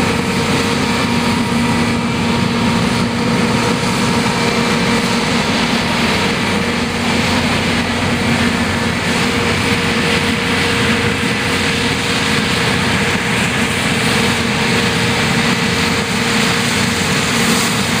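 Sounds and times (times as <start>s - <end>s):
combine harvester engine drone: 0.0s - 18.0s
threshing rushing noise: 0.0s - 18.0s.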